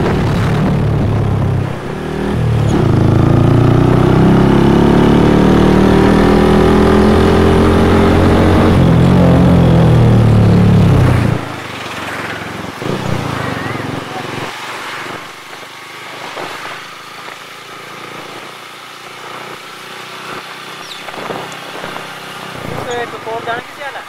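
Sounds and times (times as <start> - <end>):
motorcycle engine running: 0.0 - 23.8.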